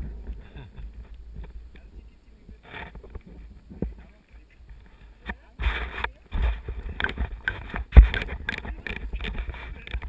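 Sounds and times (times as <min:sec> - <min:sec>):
wind buffeting microphone: 0:00.0 - 0:10.0
scattered clicks: 0:00.3 - 0:10.0.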